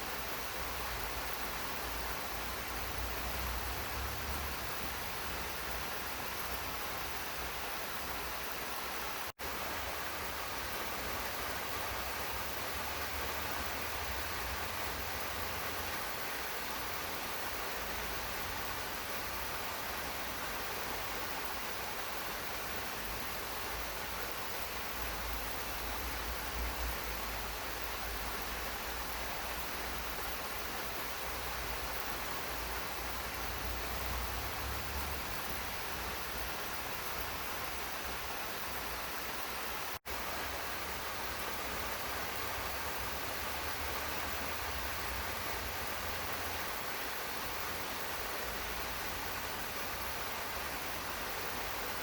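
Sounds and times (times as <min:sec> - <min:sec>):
steady rain hiss: 0:00.0 - 0:52.0.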